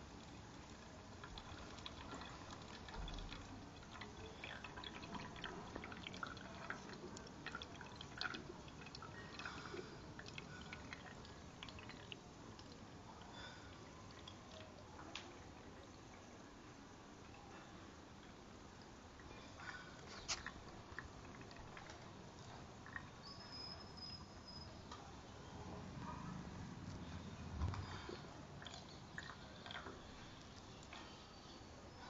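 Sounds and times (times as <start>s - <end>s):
faint water dripping: 0.0s - 32.0s.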